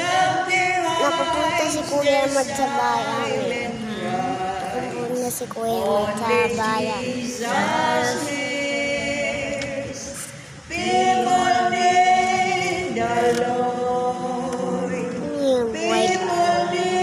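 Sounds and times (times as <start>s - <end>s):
women singing a hymn: 0.0s - 5.2s, 5.8s - 15.2s, 15.8s - 17.0s.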